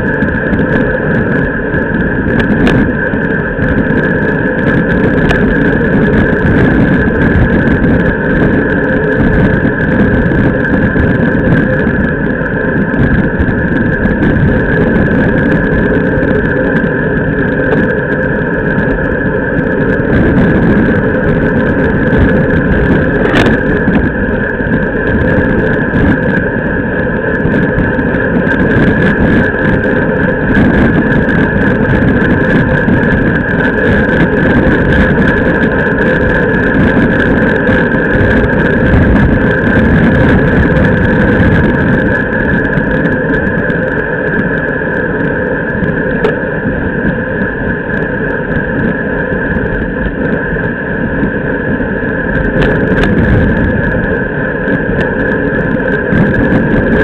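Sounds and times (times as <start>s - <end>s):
tyre humming on road: 0.0s - 57.0s
wind and road noise: 0.0s - 57.0s.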